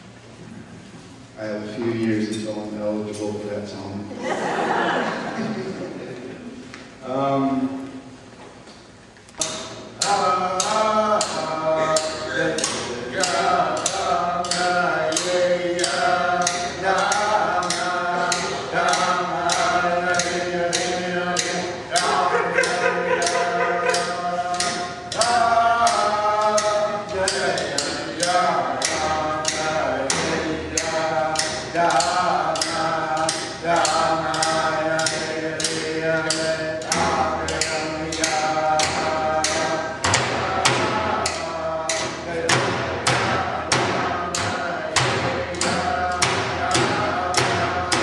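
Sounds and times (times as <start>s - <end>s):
frame drums beating: 9.4s - 48.0s
group of voices singing: 9.4s - 48.0s.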